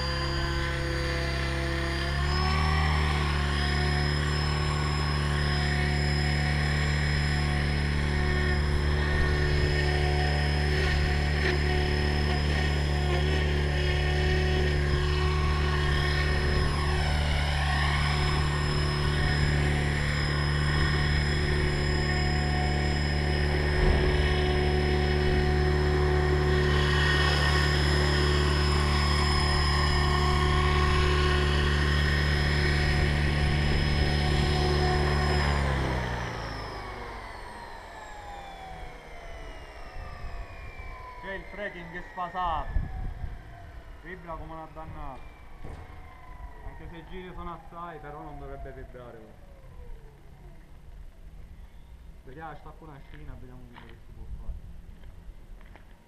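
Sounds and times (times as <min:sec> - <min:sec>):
model helicopter rotor whine: 0:00.0 - 0:56.0.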